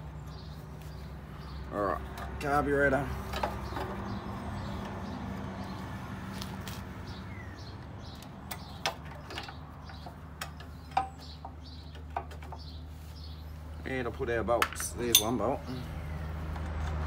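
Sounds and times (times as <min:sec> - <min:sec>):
birds chirping: 0:00.0 - 0:16.6.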